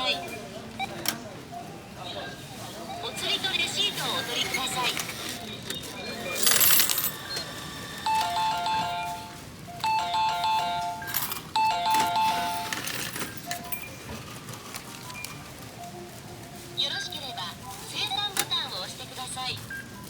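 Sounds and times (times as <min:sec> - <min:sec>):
payment machine electronic chime: 0:00.0 - 0:20.0.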